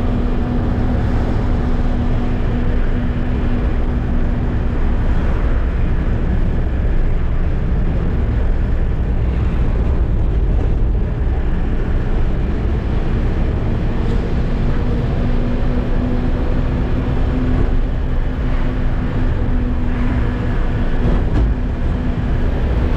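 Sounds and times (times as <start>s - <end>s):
truck engine and road noise: 0.0s - 22.9s.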